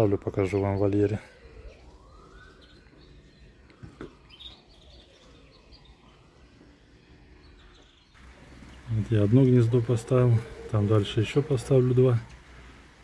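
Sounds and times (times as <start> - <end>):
faint songbird chirps: 0.0 - 12.7.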